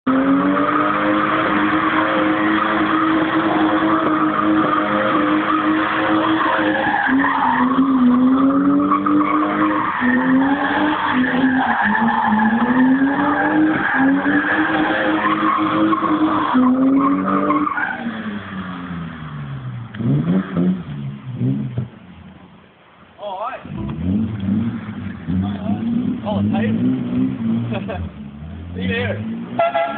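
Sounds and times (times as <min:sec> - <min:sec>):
car engine revving high: 0:00.1 - 0:22.0, 0:23.6 - 0:29.9
tyres skidding on wet ground: 0:00.1 - 0:23.0, 0:23.6 - 0:29.9.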